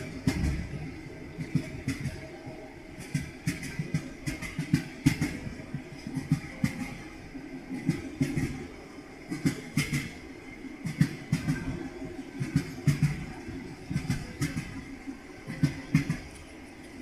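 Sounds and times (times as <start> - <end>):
train wheels clattering over joints: 0.0 - 10.2, 10.8 - 17.0
train rolling rumble: 0.0 - 17.0.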